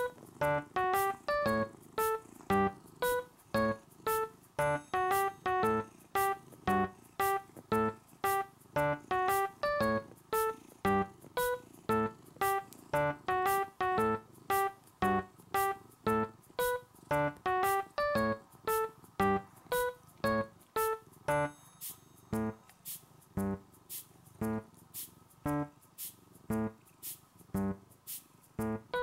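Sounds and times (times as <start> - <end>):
keyboard notes over a beat: 0.0 - 26.8, 27.5 - 28.0, 28.6 - 29.0.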